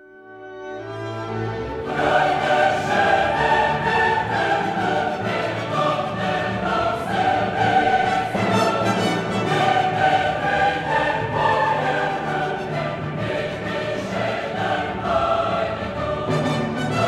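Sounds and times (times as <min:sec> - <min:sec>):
orchestral music with choir: 0:00.0 - 0:17.0.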